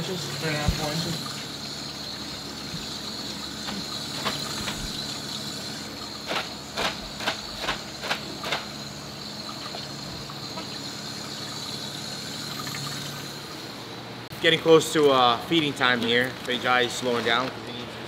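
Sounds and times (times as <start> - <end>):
aquarium water hiss: 0.0 - 15.8.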